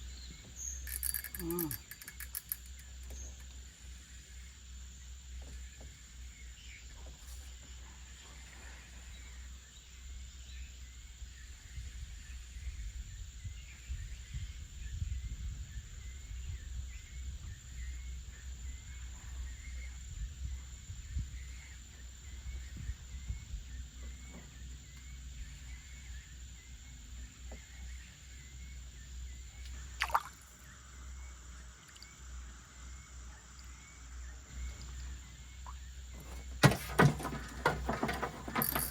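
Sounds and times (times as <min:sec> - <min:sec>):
steady high-pitched whine: 0:00.0 - 0:38.9.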